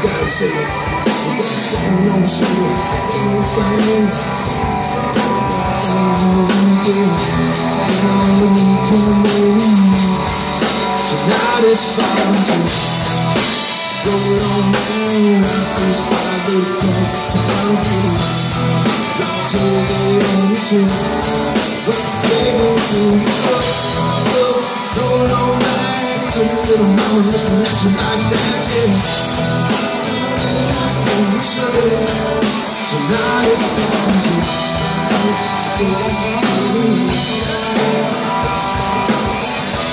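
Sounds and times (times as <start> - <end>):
drum kit: 0.0 - 39.9
electric and acoustic guitars: 0.0 - 39.9
male lead vocal: 0.0 - 39.9.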